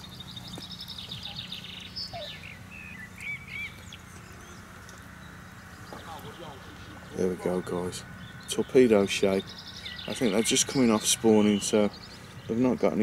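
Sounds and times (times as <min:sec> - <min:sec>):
small birds trilling and chirping: 0:00.0 - 0:13.0
steady low hum: 0:00.0 - 0:13.0.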